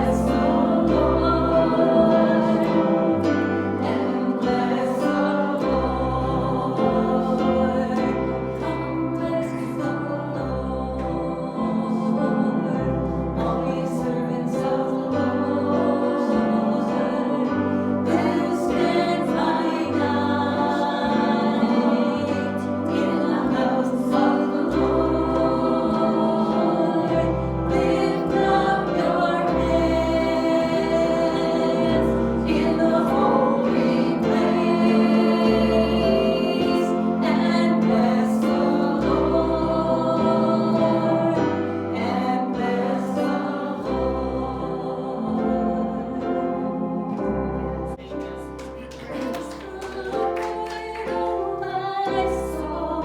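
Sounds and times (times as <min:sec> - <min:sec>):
congregation singing gospel song: 0:00.0 - 0:53.0.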